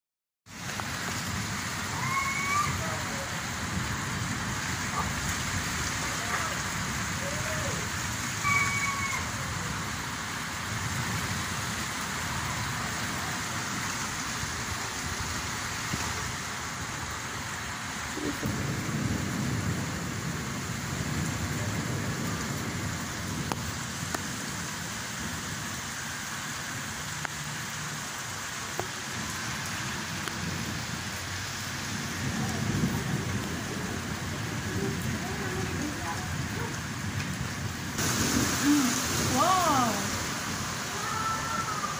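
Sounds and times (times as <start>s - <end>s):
steady rain falling: 0.5s - 41.9s
thunder rumbling: 0.6s - 25.9s, 28.9s - 41.9s.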